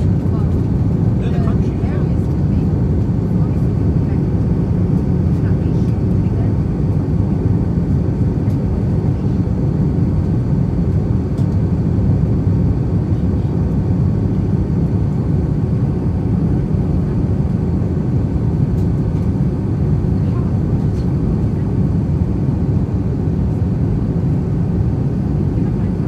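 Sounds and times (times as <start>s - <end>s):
airflow rushing in aircraft cabin: 0.0s - 26.0s
jet engines humming: 0.0s - 26.0s.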